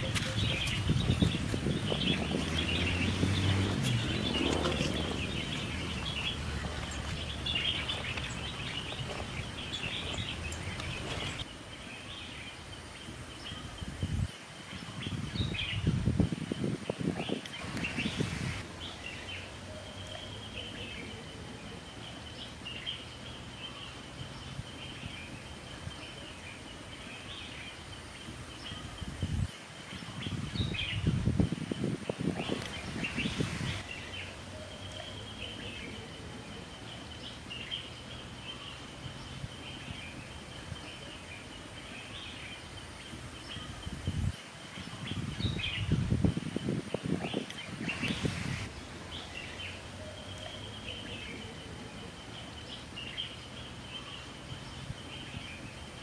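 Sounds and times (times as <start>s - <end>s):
birds chirping and trilling: 0.0s - 56.0s
outdoor background noise: 0.0s - 56.0s.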